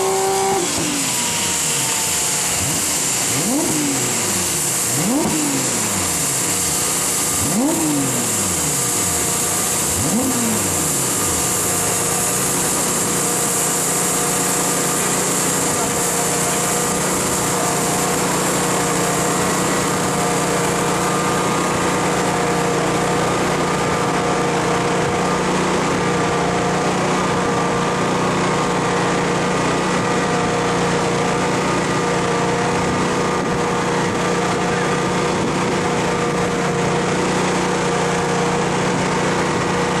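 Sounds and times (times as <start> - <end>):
engine droning with whine: 0.0 - 40.0.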